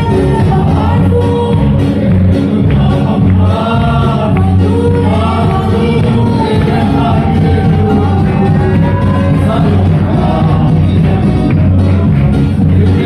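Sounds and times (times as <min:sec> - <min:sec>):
congregation singing gospel song: 0:00.0 - 0:13.0
instrumental accompaniment with bass: 0:00.0 - 0:13.0.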